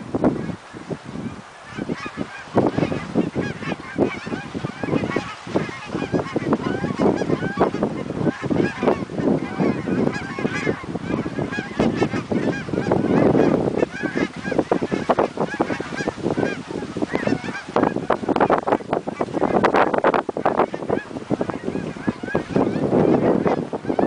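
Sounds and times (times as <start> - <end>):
flock of geese honking: 0.0 - 24.0.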